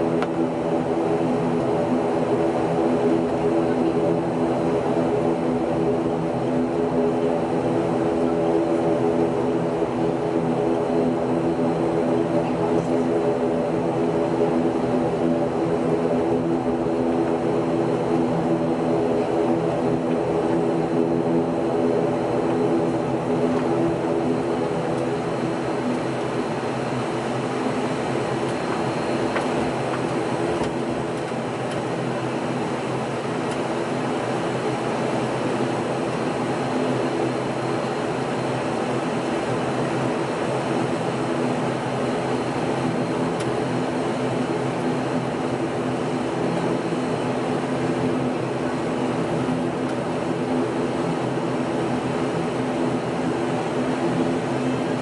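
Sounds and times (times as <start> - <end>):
airliner engines droning: 0.0 - 55.0.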